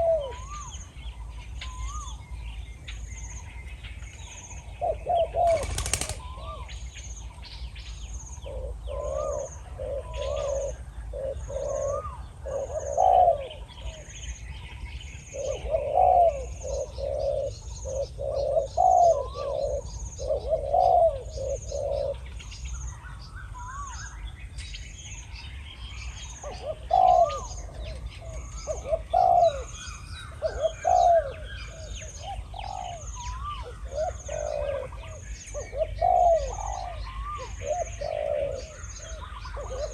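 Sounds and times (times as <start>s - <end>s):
doves cooing: 0.0s - 2.2s, 4.7s - 6.8s, 8.4s - 22.5s, 26.0s - 39.9s.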